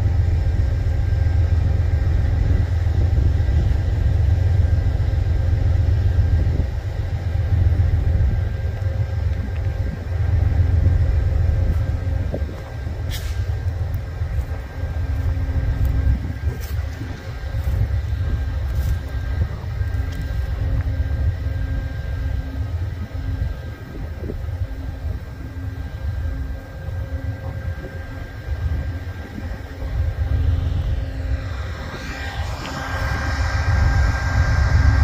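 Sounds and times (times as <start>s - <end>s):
faint engine hum: 0.0s - 35.0s
freight train rumbling: 0.0s - 35.0s.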